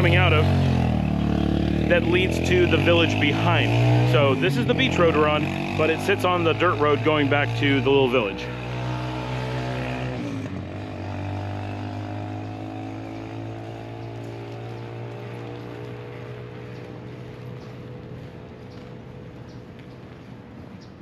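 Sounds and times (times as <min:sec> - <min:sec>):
motorcycle engine passing by: 0:00.0 - 0:21.0.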